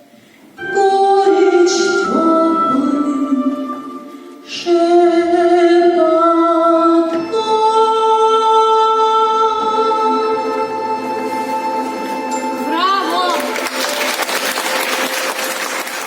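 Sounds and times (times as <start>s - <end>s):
song accompaniment: 0.6s - 16.0s.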